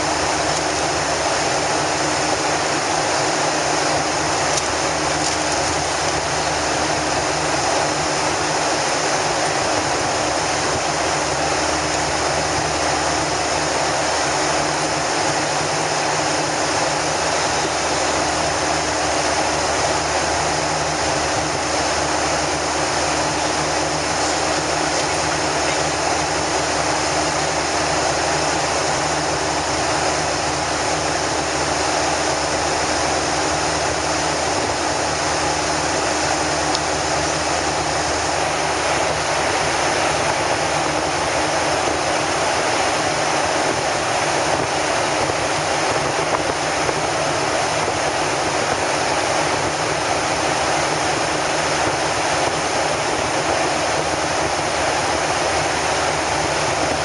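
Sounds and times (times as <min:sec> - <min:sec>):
air rushing along fuselage: 0:00.0 - 0:57.0
jet engines droning: 0:00.0 - 0:57.0.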